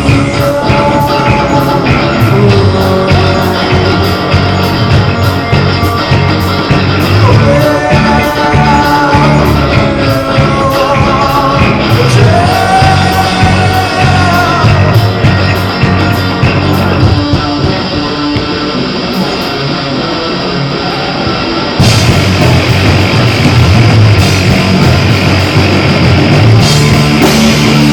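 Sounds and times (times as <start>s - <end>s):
steady drum beat: 0.0s - 19.8s, 21.6s - 27.9s
rock band playing loud: 0.0s - 27.9s.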